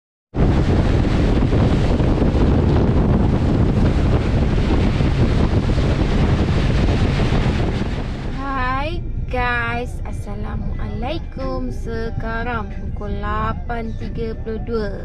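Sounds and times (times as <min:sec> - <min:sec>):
wind buffeting microphone: 0:00.3 - 0:15.0.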